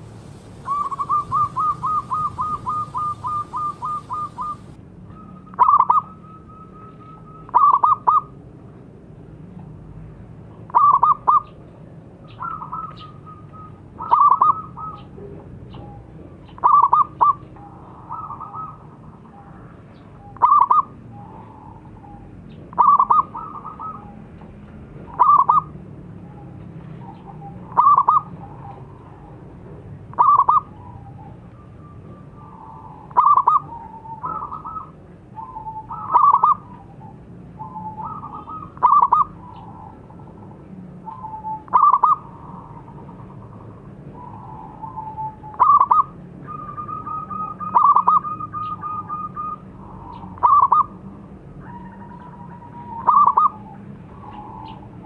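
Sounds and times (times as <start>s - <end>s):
dove cooing: 0.0s - 8.3s, 10.7s - 11.5s, 12.4s - 19.7s, 20.3s - 24.2s, 25.0s - 25.7s, 27.0s - 29.4s, 30.1s - 31.4s, 32.2s - 40.4s, 41.0s - 51.0s, 51.6s - 55.0s.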